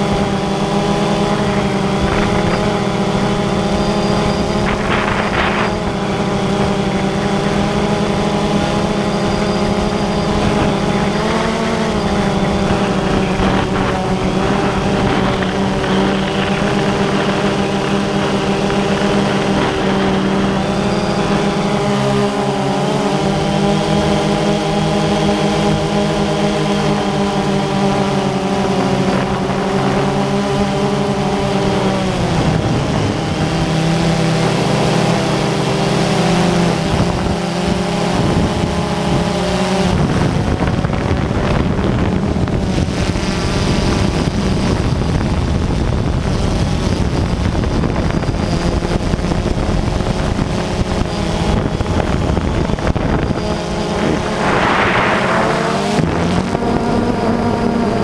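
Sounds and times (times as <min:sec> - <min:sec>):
drone motors humming: 0:00.0 - 0:58.0
wind buffeting microphone: 0:00.0 - 0:58.0.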